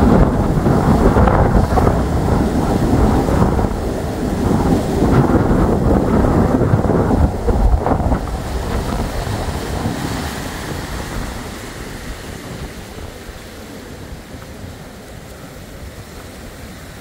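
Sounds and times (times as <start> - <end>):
surf breaking on beach: 0.0 - 17.0
wind on microphone: 0.0 - 17.0.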